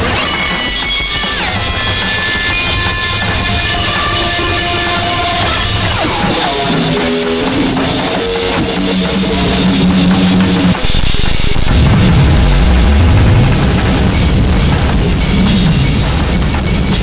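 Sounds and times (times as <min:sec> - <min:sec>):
distorted noise music: 0:00.0 - 0:17.0.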